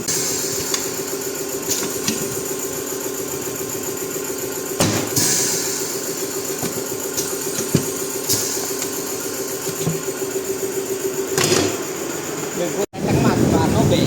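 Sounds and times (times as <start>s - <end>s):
motor humming: 0.0s - 12.8s.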